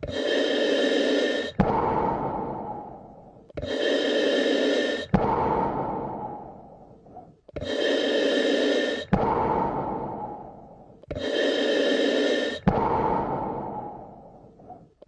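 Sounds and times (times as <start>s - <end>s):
slow deep breathing: 0.0s - 15.0s.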